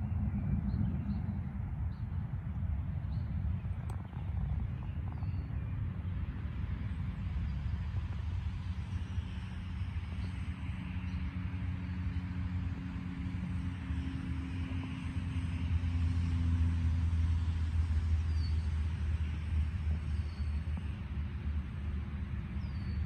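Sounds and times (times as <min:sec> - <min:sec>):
hiss of wind: 0:00.0 - 0:23.0
vehicle engine humming: 0:00.0 - 0:23.0
wind buffeting microphone: 0:00.0 - 0:23.0.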